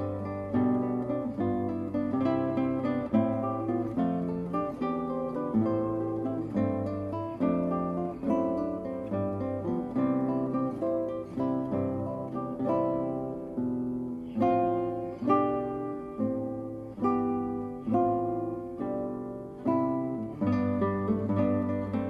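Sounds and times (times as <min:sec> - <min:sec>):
acoustic guitar plucked chords: 0:00.0 - 0:22.0.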